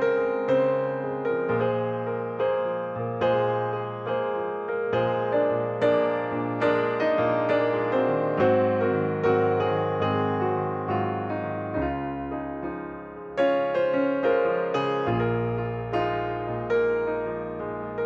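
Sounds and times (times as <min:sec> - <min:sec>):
slow gentle piano tune: 0:00.0 - 0:18.0.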